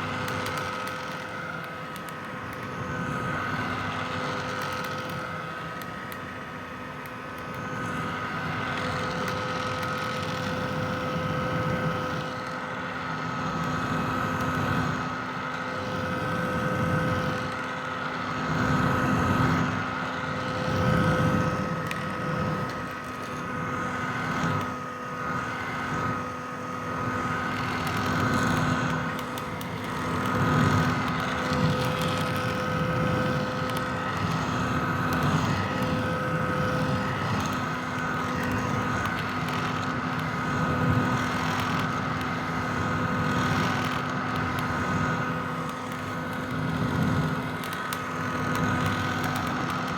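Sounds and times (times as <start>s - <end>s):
hair dryer running: 0.0s - 49.9s.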